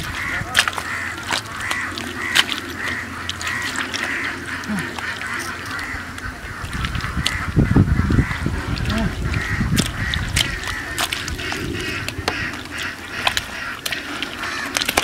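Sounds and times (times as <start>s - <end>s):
wet mud squelching: 0.0s - 15.0s.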